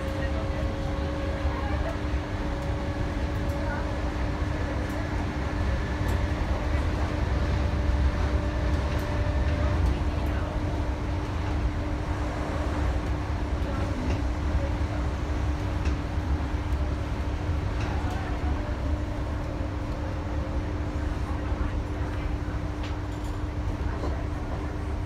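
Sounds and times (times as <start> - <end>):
constant hum: 0.0 - 25.0
train rumble: 0.0 - 25.0.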